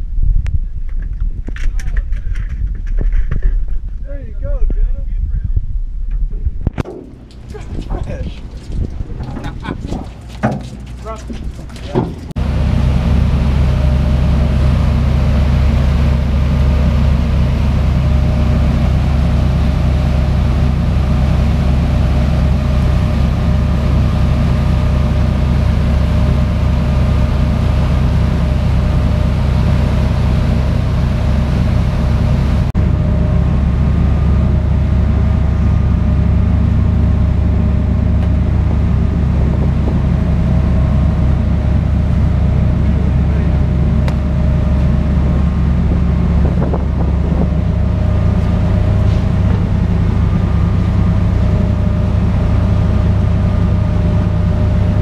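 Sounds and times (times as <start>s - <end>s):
boat engines droning: 6.8s - 55.0s.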